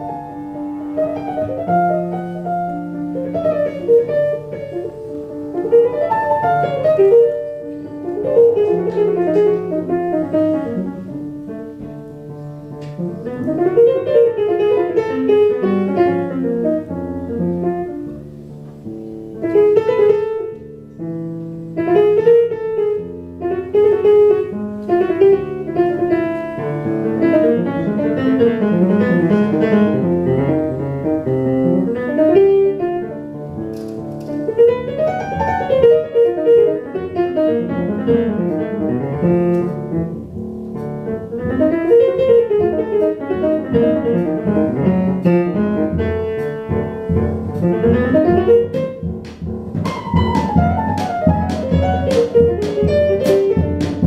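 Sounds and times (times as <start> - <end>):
double bass: 0.0 - 36.6, 37.2 - 54.0
jazz piano: 0.0 - 54.0.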